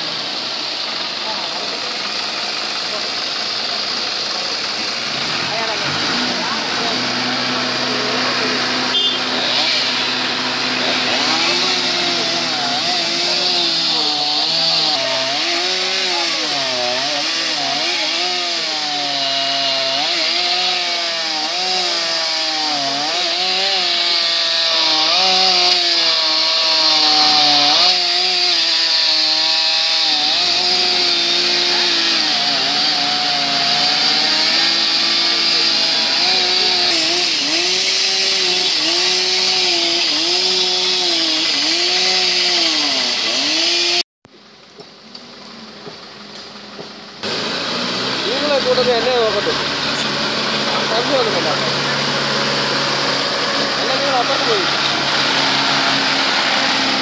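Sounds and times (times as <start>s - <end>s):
chainsaw cutting wood: 0.0s - 44.0s, 47.2s - 57.0s.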